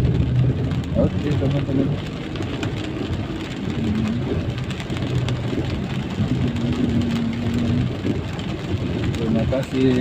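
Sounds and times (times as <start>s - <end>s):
rain hissing on wet road: 0.0s - 10.0s
vehicle engine humming: 0.0s - 10.0s.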